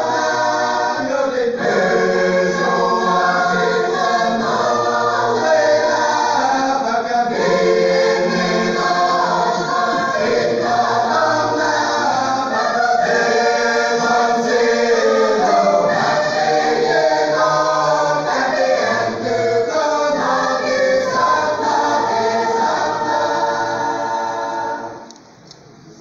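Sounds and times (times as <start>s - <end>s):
mixed choir singing in parts: 0.0s - 25.2s.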